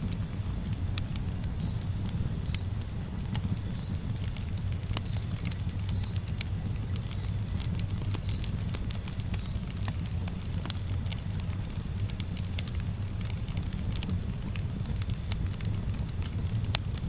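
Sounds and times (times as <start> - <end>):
burning wood crackling and popping: 0.0 - 17.0
campfire flames rumbling: 0.0 - 17.0.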